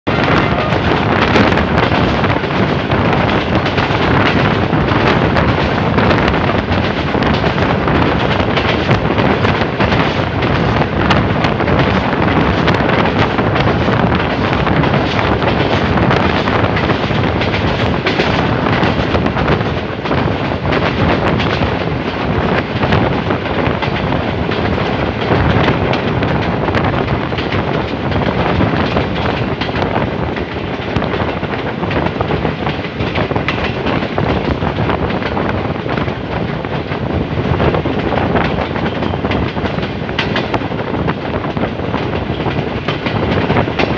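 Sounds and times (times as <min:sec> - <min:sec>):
train wheels rumbling on rails: 0:00.0 - 0:43.9
wind buffeting microphone: 0:00.0 - 0:43.9.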